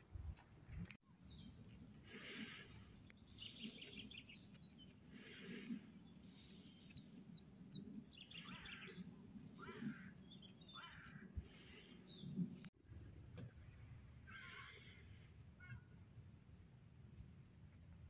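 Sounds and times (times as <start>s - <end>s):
outdoor background noise: 0.0s - 18.0s
songbirds chirping and trilling: 0.7s - 12.8s, 13.4s - 17.1s.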